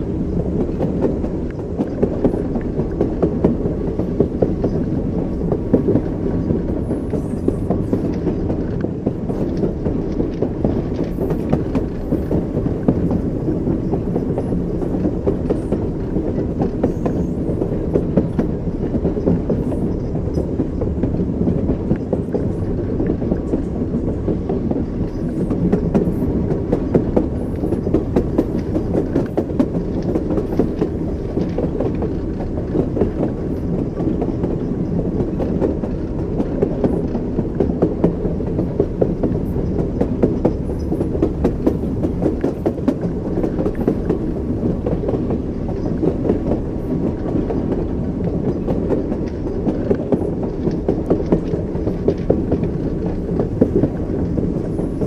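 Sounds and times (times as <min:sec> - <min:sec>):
low rumble of railway carriage: 0:00.0 - 0:55.0
train wheels clicking over rail joints: 0:00.0 - 0:55.0.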